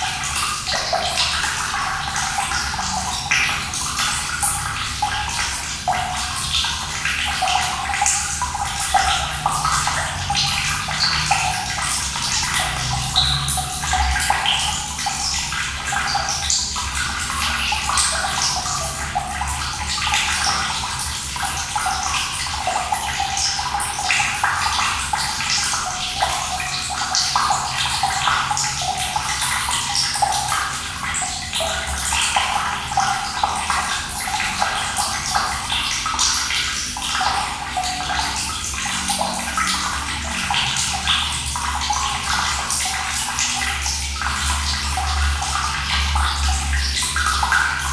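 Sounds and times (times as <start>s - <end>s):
running water splashing: 0.0s - 47.9s.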